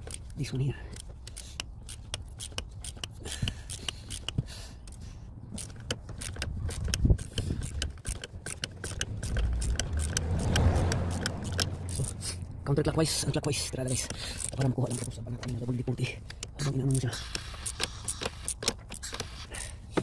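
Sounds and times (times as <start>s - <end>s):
hand tool metallic clicks: 0.0s - 12.5s, 13.2s - 20.0s.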